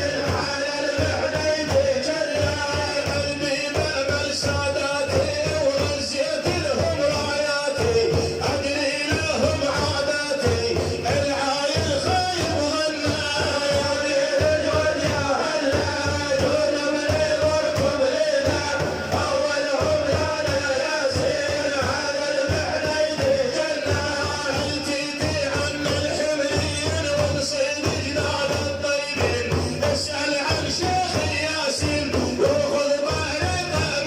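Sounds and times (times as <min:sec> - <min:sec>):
steady drum beat: 0:00.0 - 0:34.0.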